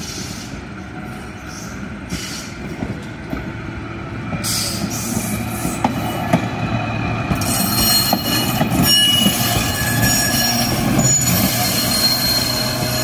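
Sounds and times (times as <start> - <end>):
train wheels squealing: 0.0 - 2.8, 4.4 - 6.6, 7.3 - 13.0
train rolling past: 0.0 - 13.0.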